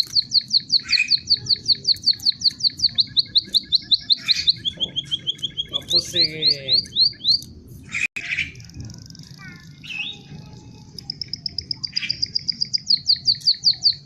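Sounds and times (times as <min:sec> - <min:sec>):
bird singing: 0:00.0 - 0:14.0.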